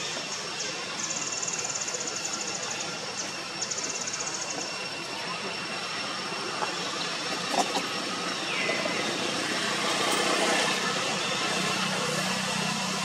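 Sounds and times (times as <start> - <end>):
rapidly pulsing insect call: 0.0 - 13.0.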